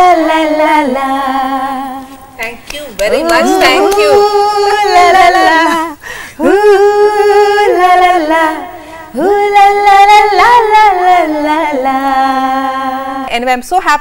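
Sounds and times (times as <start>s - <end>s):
woman singing unaccompanied: 0.0s - 13.6s.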